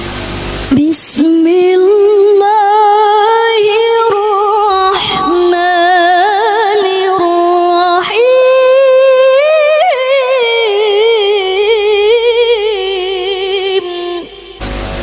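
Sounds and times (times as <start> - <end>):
woman reciting melodically: 0.7 - 14.6.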